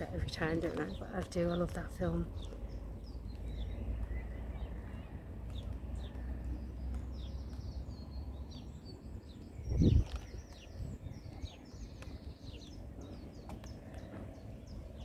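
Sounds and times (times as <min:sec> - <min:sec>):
songbird chirping and trilling: 0:00.0 - 0:15.0
steady low rumble: 0:00.0 - 0:15.0.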